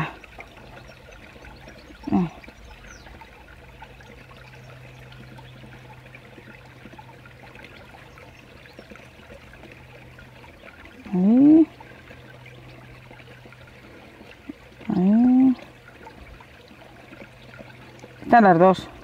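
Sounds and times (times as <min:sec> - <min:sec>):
stream water trickling: 0:00.0 - 0:19.0.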